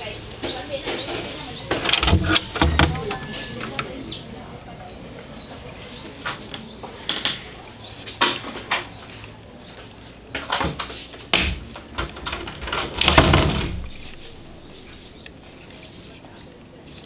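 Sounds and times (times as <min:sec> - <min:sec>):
bird chirps: 0:00.0 - 0:10.6, 0:13.8 - 0:17.0.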